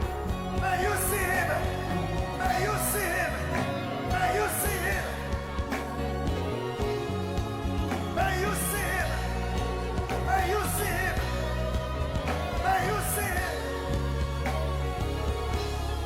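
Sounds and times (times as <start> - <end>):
band with steady bass line: 0.0 - 16.0
person singing gospel: 0.0 - 16.0.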